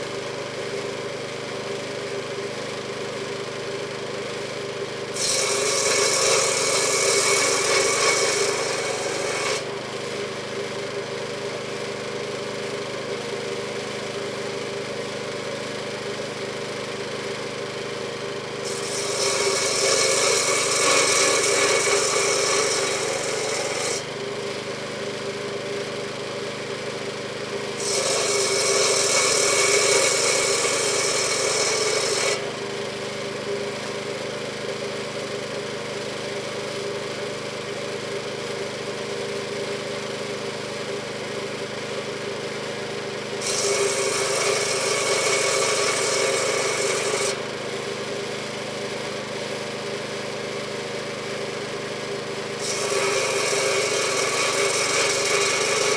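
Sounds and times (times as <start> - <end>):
circular saw cutting logs: 0.0 - 55.9
saw bench engine running: 0.0 - 55.9.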